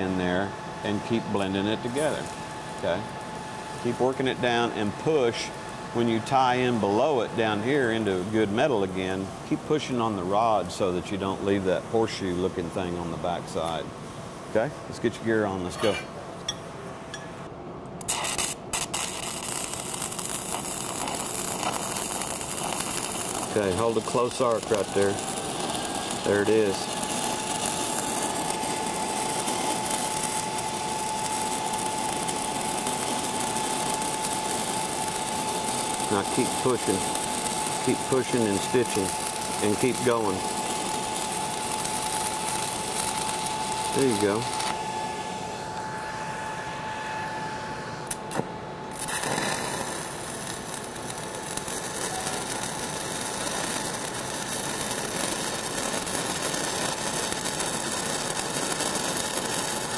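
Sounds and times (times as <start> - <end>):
welding arc crackling and hissing: 0.0 - 13.9, 17.9 - 46.8, 48.0 - 59.9
thin steady whine: 0.0 - 59.9.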